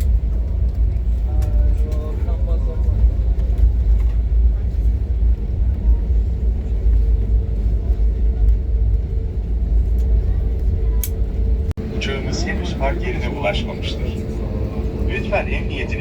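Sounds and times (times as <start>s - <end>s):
faint engine hum: 0.0s - 16.0s
low cabin rumble: 0.0s - 16.0s.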